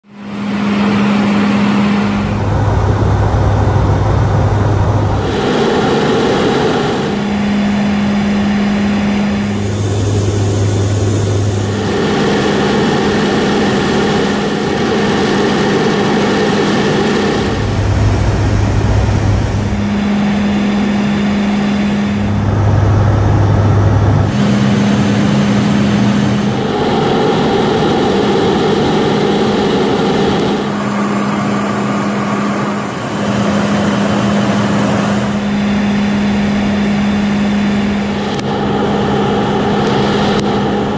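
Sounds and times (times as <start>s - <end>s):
turboprop aircraft droning: 0.0s - 40.9s
rushing airflow: 0.2s - 40.9s.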